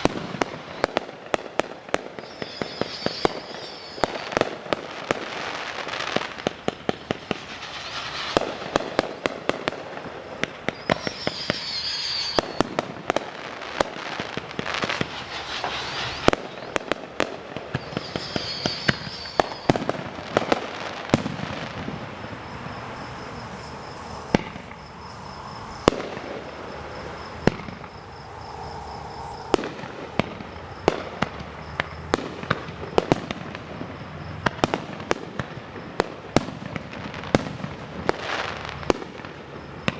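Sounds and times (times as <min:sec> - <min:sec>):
fireworks popping and banging: 0:00.0 - 0:22.9, 0:24.2 - 0:24.8, 0:25.8 - 0:28.0, 0:29.5 - 0:39.9
fireworks whistling: 0:00.0 - 0:39.9.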